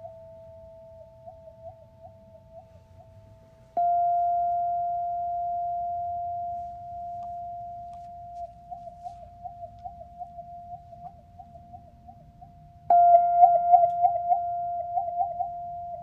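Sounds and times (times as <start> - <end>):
singing bowl ringing: 0.0 - 16.0
singing bowl struck: 0.0 - 16.0.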